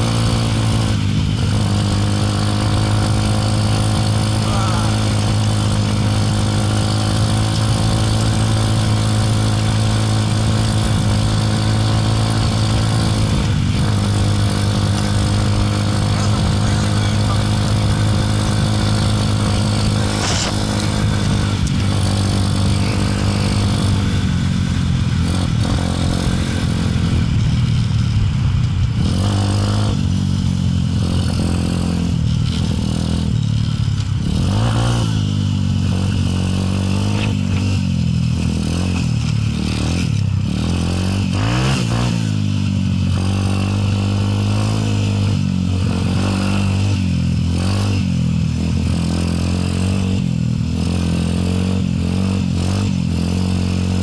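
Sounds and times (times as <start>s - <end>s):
motorcycle engine running: 0.0s - 54.0s
steady rush of noise: 0.0s - 54.0s.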